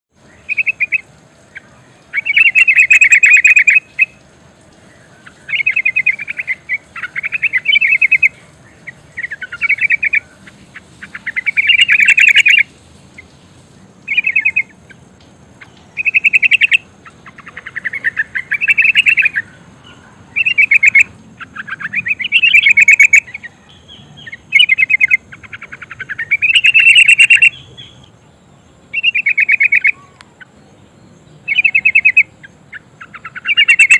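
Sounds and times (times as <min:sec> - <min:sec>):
bird chattering calls: 0:00.3 - 0:04.3, 0:05.0 - 0:28.1, 0:28.9 - 0:30.6, 0:31.4 - 0:33.9.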